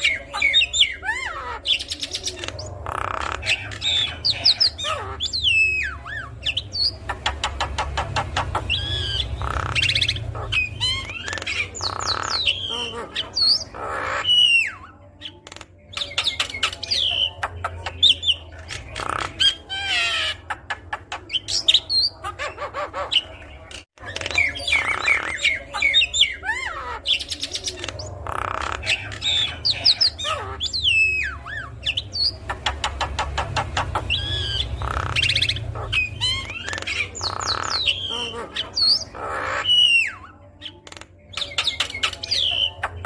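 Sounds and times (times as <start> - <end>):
bird singing varied song: 0.0 - 43.0.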